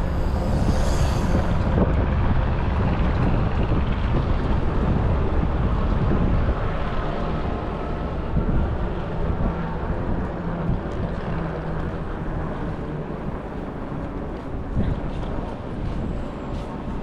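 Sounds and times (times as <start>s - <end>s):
low steady engine drone: 0.0s - 17.0s
wind rushing over microphone: 0.0s - 17.0s.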